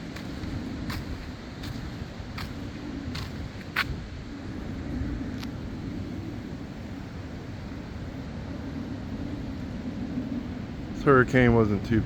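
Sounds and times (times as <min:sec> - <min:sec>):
wind gusting: 0:00.0 - 0:12.0
wind rumble on microphone: 0:00.0 - 0:12.0.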